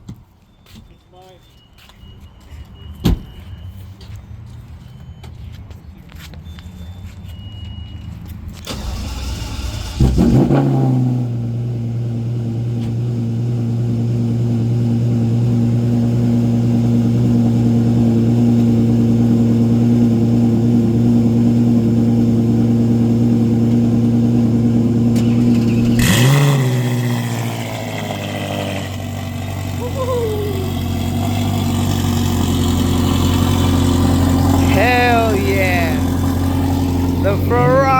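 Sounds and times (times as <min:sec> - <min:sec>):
car engine idling and revving: 0:03.2 - 0:37.9.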